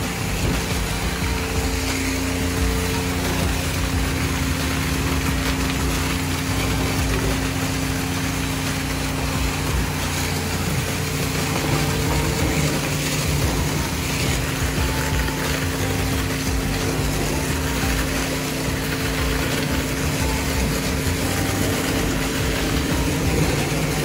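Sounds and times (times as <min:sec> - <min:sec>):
pressure pump humming: 0:00.0 - 0:24.0
water spraying: 0:00.0 - 0:24.0.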